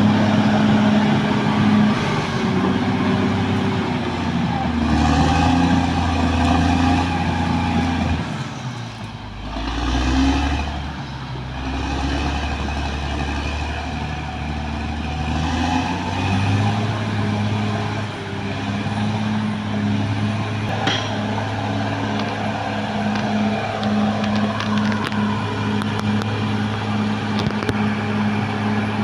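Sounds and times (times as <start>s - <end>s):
bulldozer diesel engine under load: 0.0s - 29.0s.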